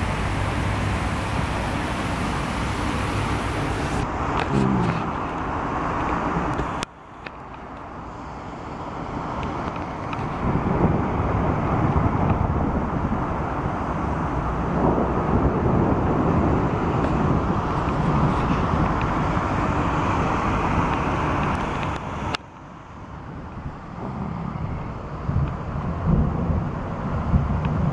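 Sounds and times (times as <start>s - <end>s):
car tyres hissing on wet street: 0.0s - 27.9s
heavy rain: 0.0s - 27.9s.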